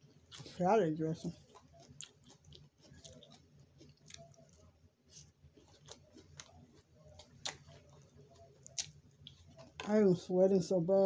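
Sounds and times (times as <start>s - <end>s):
chewing salad: 0.0s - 10.1s.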